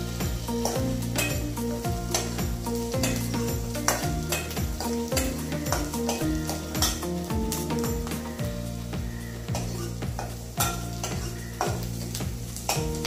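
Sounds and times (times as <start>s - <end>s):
background music with steady beat: 0.0s - 13.0s
onions sizzling in hot oil: 0.0s - 13.0s.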